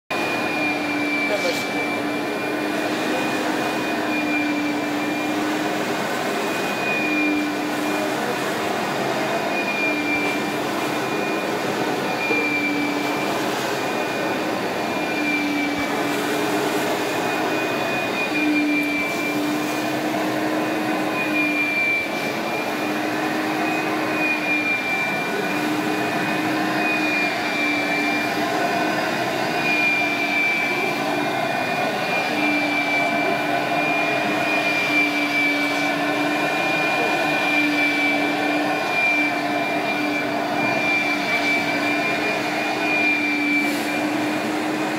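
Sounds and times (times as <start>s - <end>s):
carpet cleaner motor whining: 0.1s - 44.9s.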